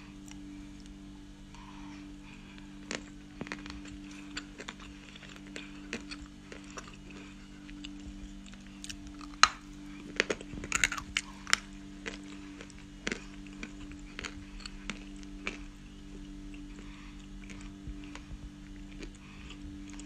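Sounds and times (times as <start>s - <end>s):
faint steady hum: 0.0s - 20.0s
crunching clay lumps: 2.6s - 20.0s.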